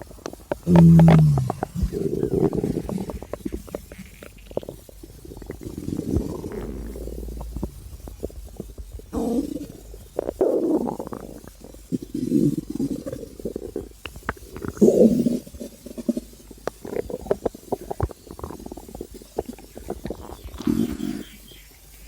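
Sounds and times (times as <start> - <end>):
stomach growling and gurgling: 0.0 - 22.0.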